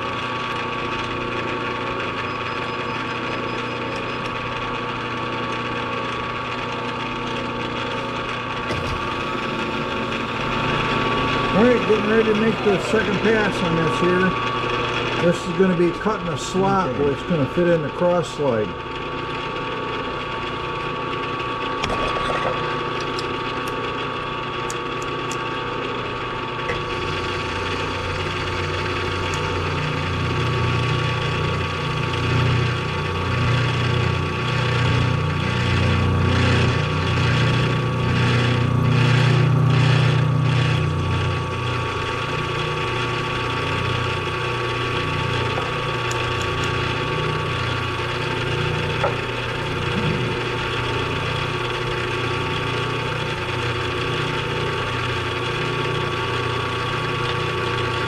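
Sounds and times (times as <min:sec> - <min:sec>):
cutter rumble cutting steel: 0:00.0 - 0:58.0
milling machine motor hum: 0:00.0 - 0:58.0.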